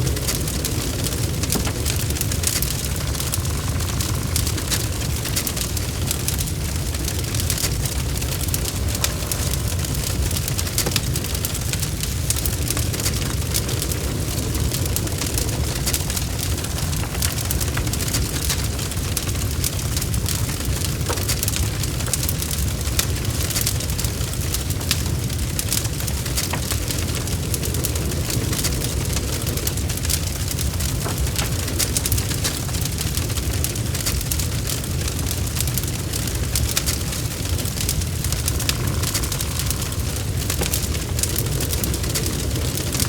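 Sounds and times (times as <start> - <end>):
fire crackling and popping: 0.0 - 43.0
low rumble of flames: 0.0 - 43.0.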